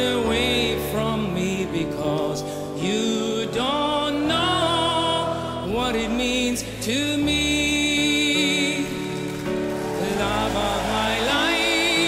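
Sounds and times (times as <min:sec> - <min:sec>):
background music with sustained chords: 0:00.0 - 0:12.0.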